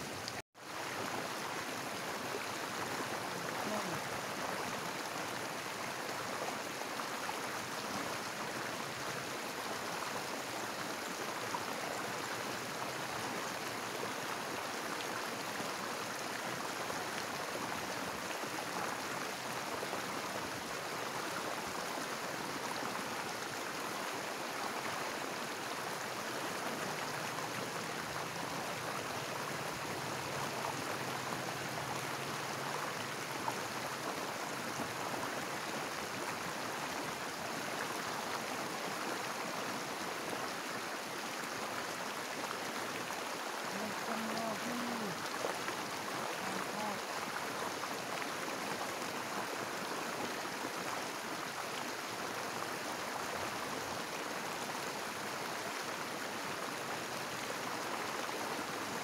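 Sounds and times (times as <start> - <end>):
river rushing over step: 0.0 - 59.0.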